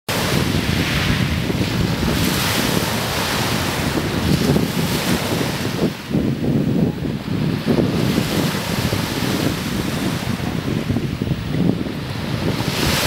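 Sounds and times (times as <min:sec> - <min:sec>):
waves splashing and lapping: 0:00.1 - 0:13.0
wind buffeting microphone: 0:00.1 - 0:13.0.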